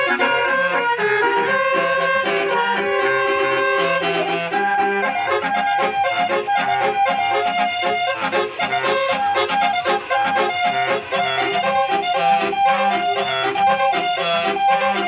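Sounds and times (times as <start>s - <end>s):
reedy melody: 0.0s - 15.0s
steady beat: 0.0s - 15.0s.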